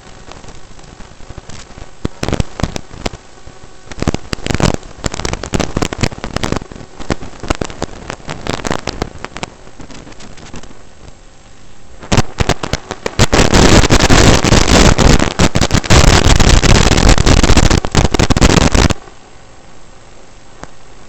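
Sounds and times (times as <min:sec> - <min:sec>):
crackling radio static: 0:00.0 - 0:21.0
faint steady hiss: 0:00.0 - 0:21.0.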